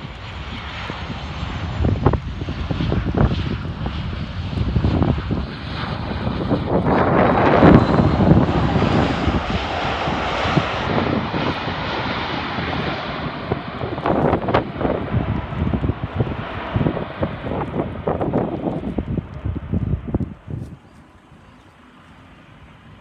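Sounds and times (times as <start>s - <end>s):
jet airliner engines: 0.0s - 23.0s.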